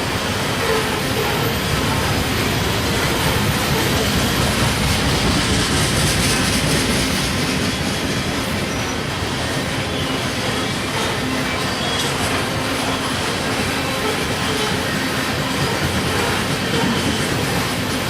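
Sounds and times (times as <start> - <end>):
train wheels rolling on rails: 0.0 - 18.0.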